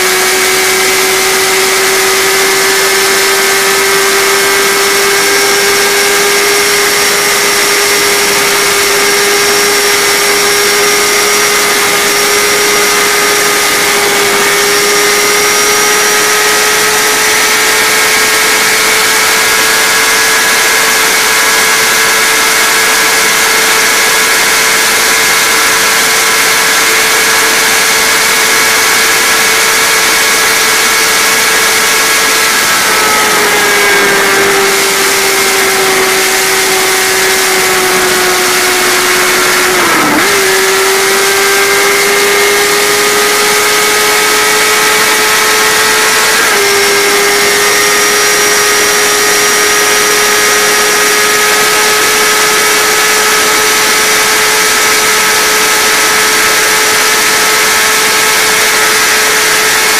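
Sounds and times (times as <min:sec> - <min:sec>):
engine at high revs: 0:00.0 - 0:59.9.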